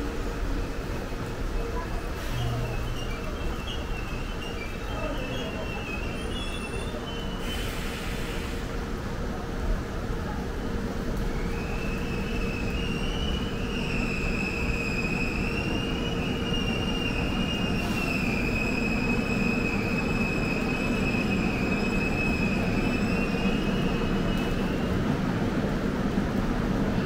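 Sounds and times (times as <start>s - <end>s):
train rumble: 0.0s - 27.0s
train wheels squealing on rails: 0.9s - 8.8s, 10.5s - 25.7s.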